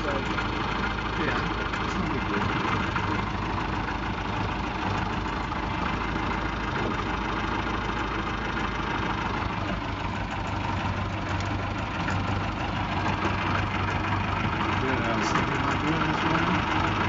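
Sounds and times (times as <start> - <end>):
aircraft engine and propeller droning: 0.0 - 17.0.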